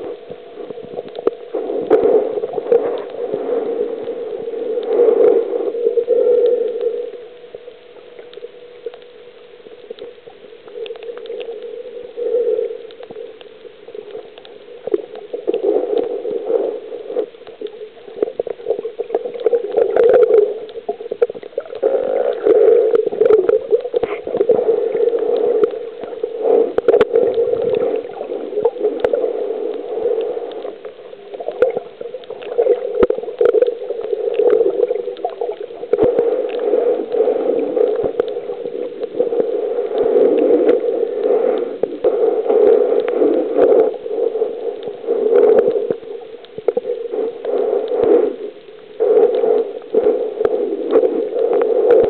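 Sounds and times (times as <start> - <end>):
muffled underwater water gurgling: 0.0 - 52.0
small scattered clicks: 0.1 - 5.3, 6.0 - 52.0.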